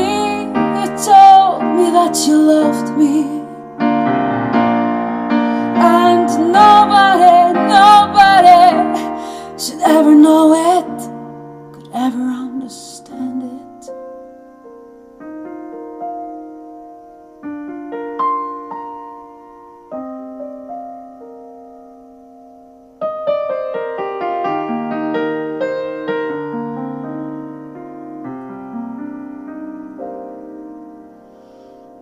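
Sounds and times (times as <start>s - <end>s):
solo piano chords: 0.0s - 32.0s.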